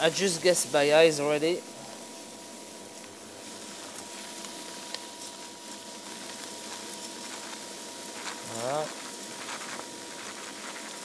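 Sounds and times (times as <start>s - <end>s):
faint steady whine: 0.0s - 11.0s
pan sizzling hiss: 0.0s - 11.0s
rice pattering into a pot: 0.0s - 11.0s.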